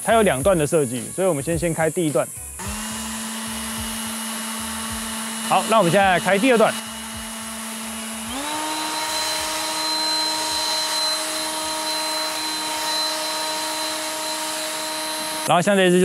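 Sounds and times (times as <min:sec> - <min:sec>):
leaf blower motor whine: 0:02.5 - 0:15.7.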